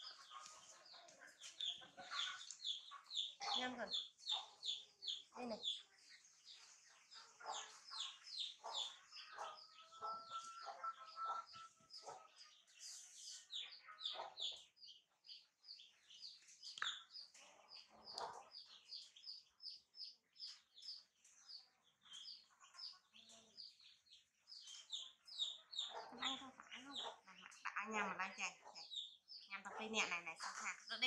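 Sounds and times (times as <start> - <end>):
birds chirping rapidly: 0.0 - 31.0
chickens clucking: 0.0 - 31.0.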